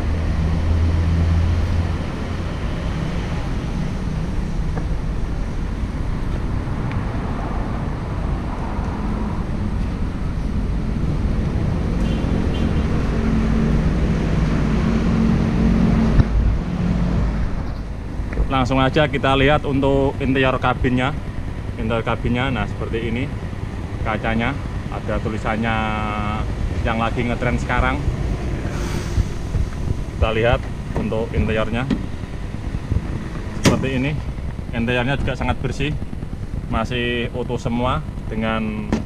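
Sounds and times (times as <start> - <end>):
deep engine hum: 0.0 - 39.0
vehicle engines running: 0.0 - 39.0.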